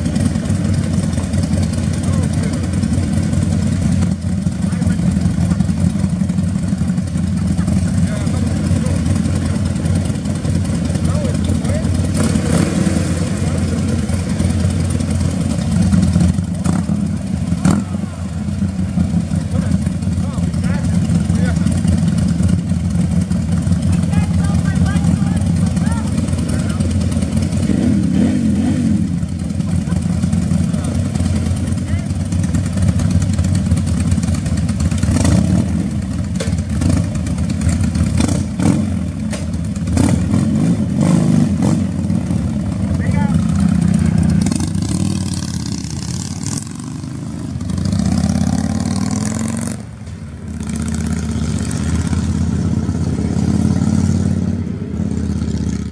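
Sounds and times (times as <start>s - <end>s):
motorcycle engines idling: 0.0s - 55.9s.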